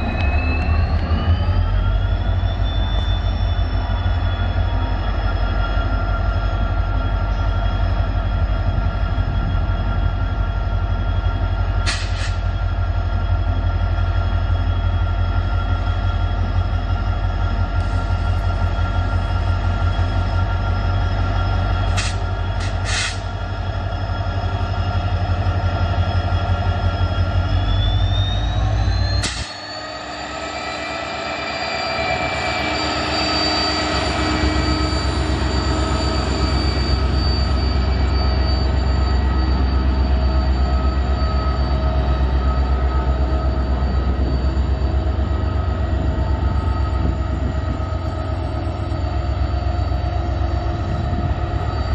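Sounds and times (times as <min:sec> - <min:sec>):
diesel locomotive engine drone: 0:00.0 - 0:51.9.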